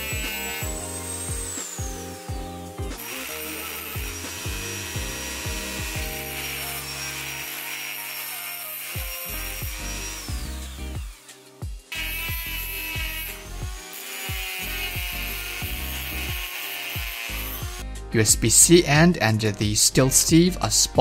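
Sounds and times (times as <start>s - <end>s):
rotary tool grinding steel: 0.0s - 2.4s, 3.0s - 17.8s
background music with beat: 0.0s - 7.0s, 9.0s - 21.0s.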